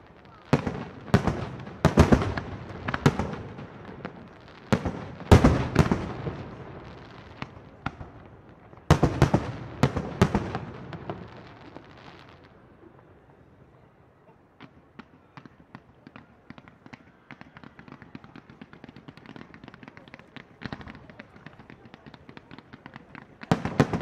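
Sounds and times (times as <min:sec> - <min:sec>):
fireworks bursting: 0:00.0 - 0:13.9, 0:14.5 - 0:24.0.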